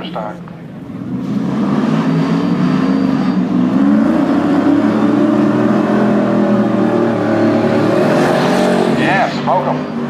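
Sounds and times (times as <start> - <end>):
car engines running: 0.0 - 10.0.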